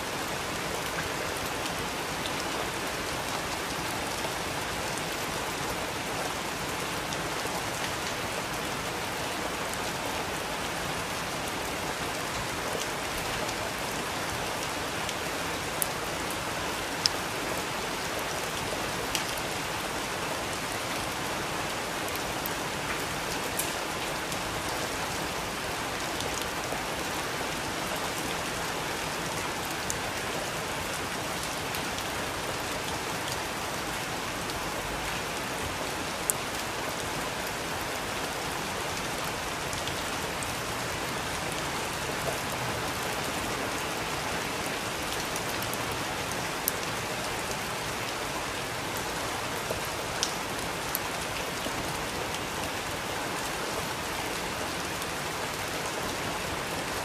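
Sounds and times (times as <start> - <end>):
rain hissing on a surface: 0.0 - 57.0.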